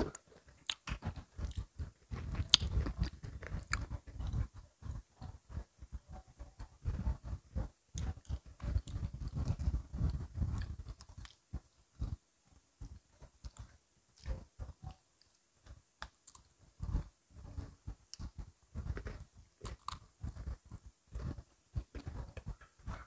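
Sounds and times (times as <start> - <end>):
people chewing crunchy cookies: 0.0 - 23.0.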